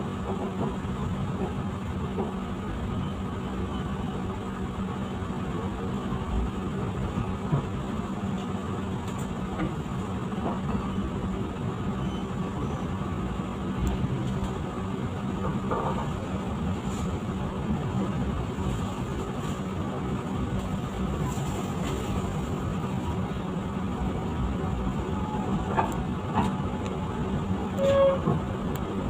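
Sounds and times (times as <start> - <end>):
passenger train rumbling: 0.0 - 29.0.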